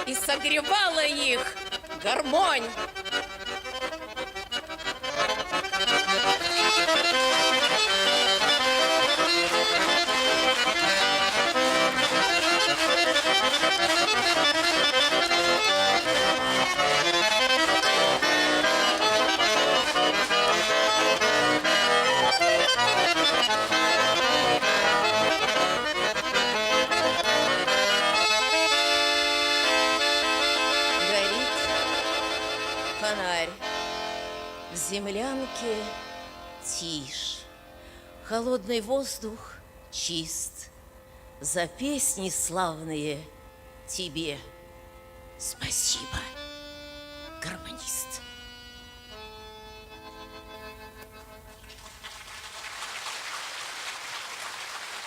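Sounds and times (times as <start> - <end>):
button accordion playing folk music: 0.0 - 51.8.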